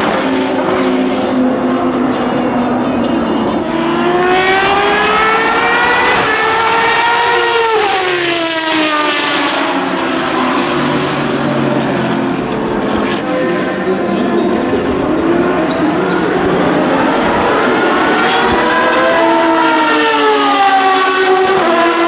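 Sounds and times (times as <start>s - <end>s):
racing engine passing at full throttle: 0.0s - 22.0s.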